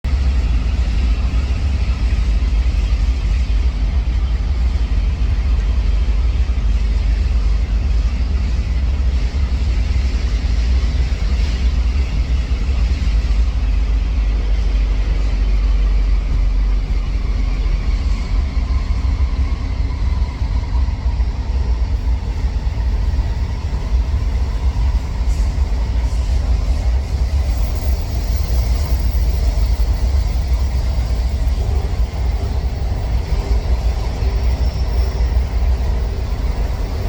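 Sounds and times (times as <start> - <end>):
train rumbling along track: 0.0 - 37.0.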